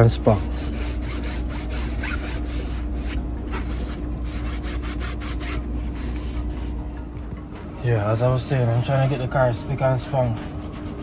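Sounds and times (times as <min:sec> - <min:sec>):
cloth rubbing speaker grille: 0:00.0 - 0:07.1, 0:07.9 - 0:11.0
steady low hum: 0:00.0 - 0:11.0.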